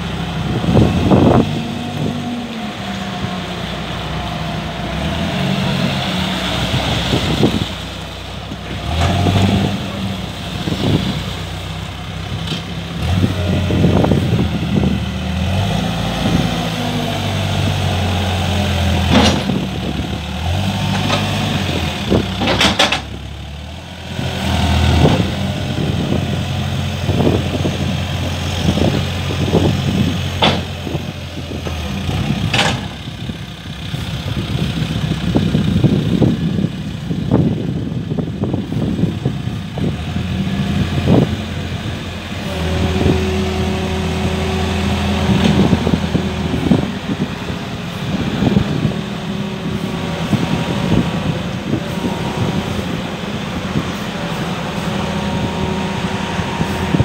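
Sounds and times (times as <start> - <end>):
diesel engine revving: 0.0 - 57.0.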